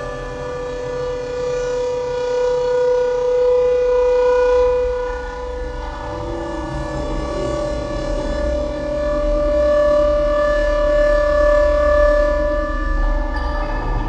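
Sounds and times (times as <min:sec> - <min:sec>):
electronic drone: 0:00.0 - 0:14.0.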